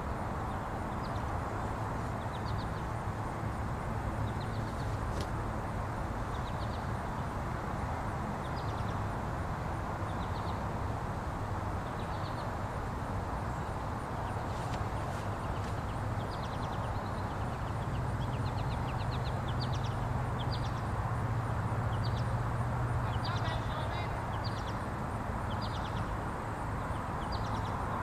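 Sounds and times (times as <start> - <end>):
constant even hiss: 0.0 - 28.0.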